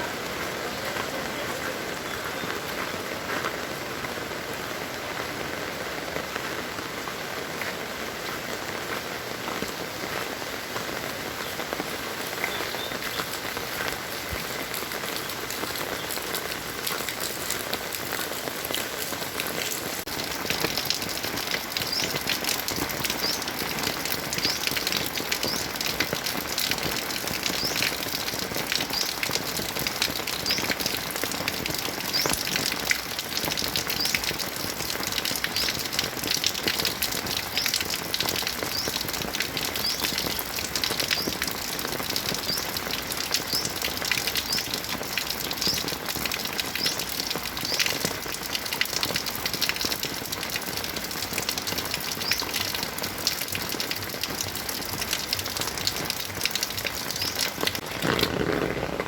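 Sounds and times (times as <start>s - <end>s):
close raindrop patter: 0.0s - 59.0s
heavy rain falling: 0.0s - 59.0s.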